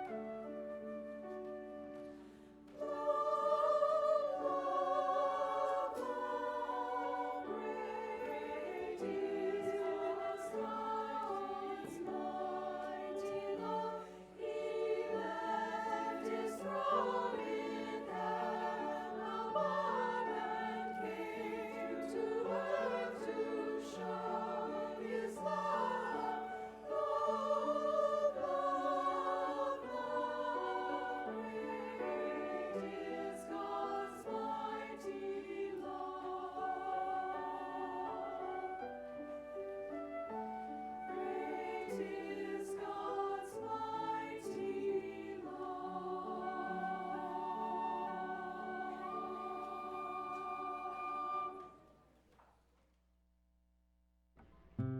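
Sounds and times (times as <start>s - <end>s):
choir singing a hymn: 0.0s - 51.9s.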